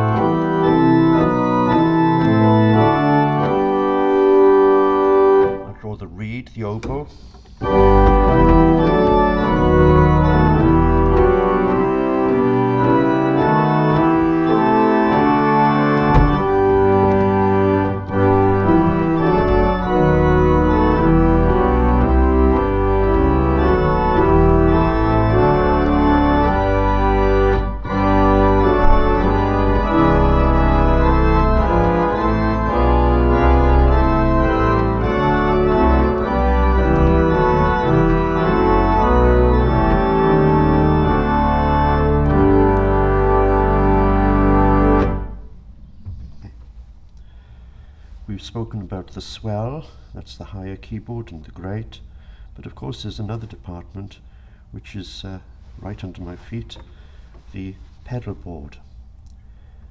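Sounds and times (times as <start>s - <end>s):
pipe organ playing a hymn: 0.0s - 51.8s, 54.7s - 58.6s.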